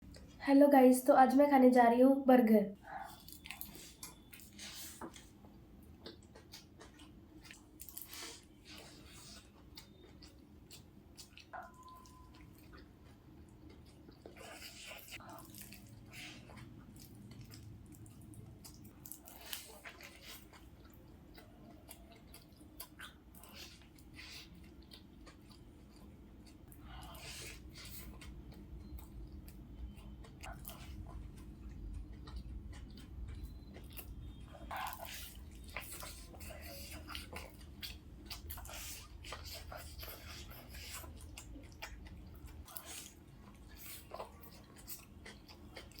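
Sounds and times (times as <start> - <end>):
person chewing: 2.9 - 46.0.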